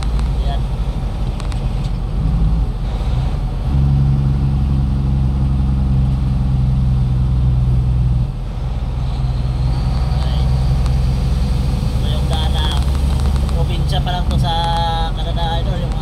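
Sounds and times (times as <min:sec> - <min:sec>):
road noise: 0:00.0 - 0:16.0
truck engine from inside cab: 0:00.0 - 0:16.0.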